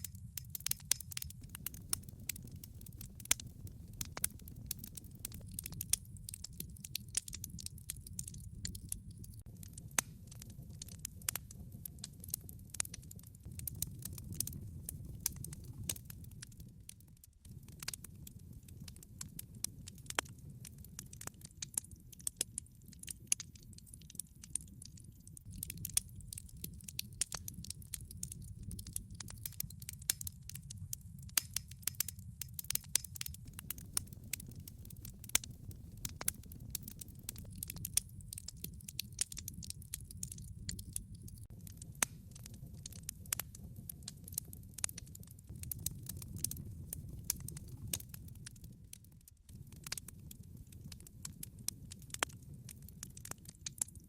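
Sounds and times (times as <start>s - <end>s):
logs burning in a fireplace: 0.0s - 54.0s.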